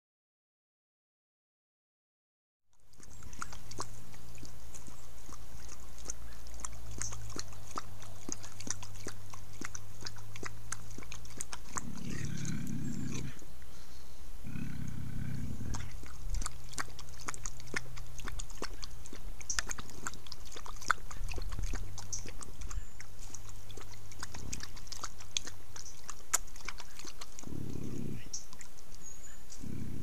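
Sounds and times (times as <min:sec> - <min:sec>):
wet clicks and smacks of lapping: 0:02.8 - 0:13.4, 0:15.7 - 0:29.1
low animal rumble: 0:02.9 - 0:13.5, 0:14.4 - 0:28.6, 0:29.3 - 0:30.0.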